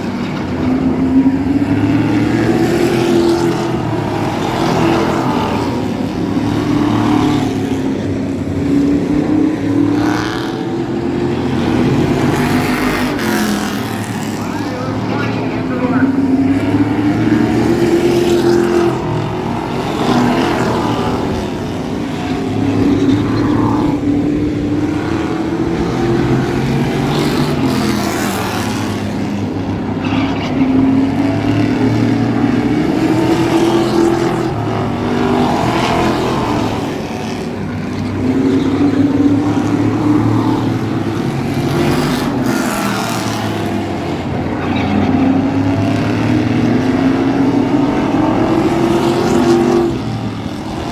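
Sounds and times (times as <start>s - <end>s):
race truck engine revving: 0.0s - 50.9s.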